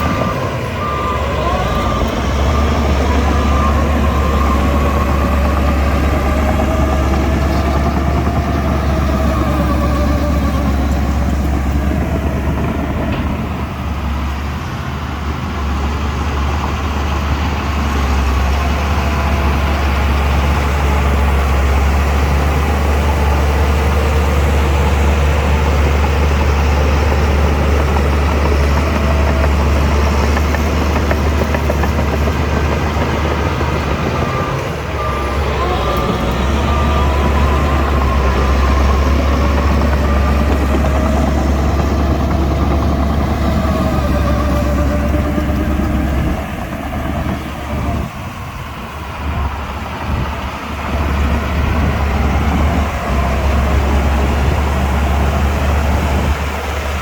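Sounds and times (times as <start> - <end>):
bulldozer diesel engine rumbling: 0.0 - 57.0.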